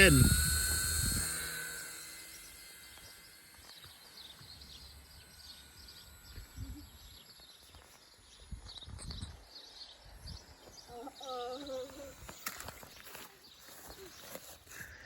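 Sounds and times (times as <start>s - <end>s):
toy helicopter motor whining: 0.0s - 15.0s.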